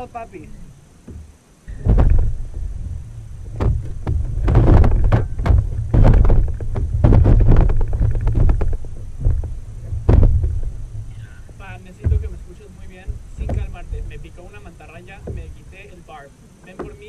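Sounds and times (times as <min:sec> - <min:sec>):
wind buffeting microphone: 0:00.0 - 0:17.0
knocks and thumps: 0:00.9 - 0:17.0.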